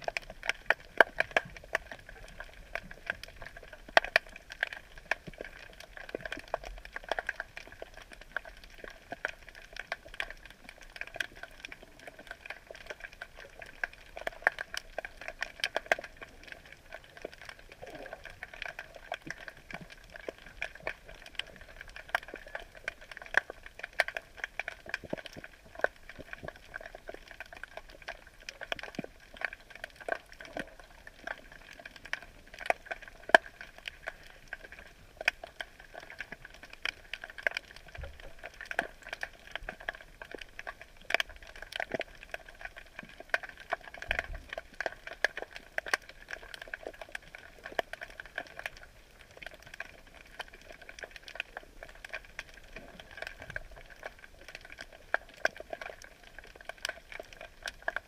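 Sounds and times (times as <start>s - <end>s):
underwater crackle of clicks: 0.0s - 58.0s.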